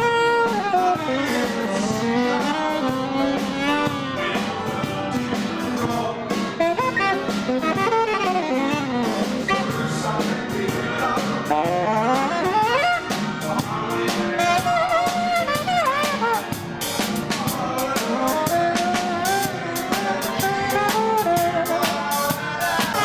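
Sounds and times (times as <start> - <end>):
band playing jazzy music: 0.0 - 23.0
saxophone melody: 0.0 - 23.0.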